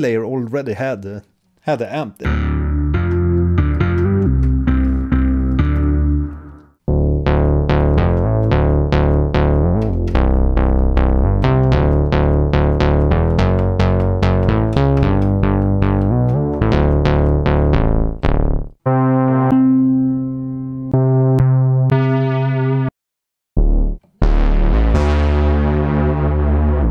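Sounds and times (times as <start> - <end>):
plucky synth bass notes: 2.2 - 22.9, 23.6 - 26.9
sustained synth bass: 2.2 - 22.9, 23.6 - 26.9.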